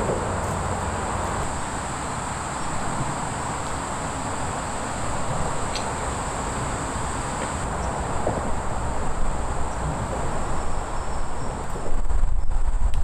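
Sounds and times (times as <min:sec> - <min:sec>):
insects droning: 0:00.0 - 0:12.7
traffic rumble: 0:00.0 - 0:13.0.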